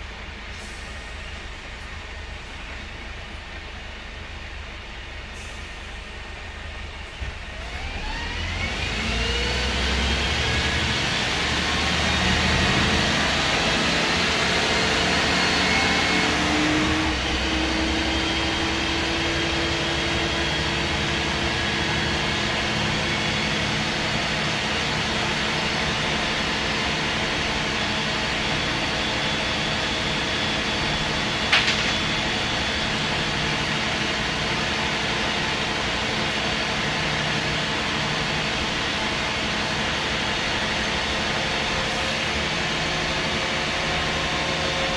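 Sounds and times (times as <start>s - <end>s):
bus diesel engine accelerating: 0.0s - 44.9s.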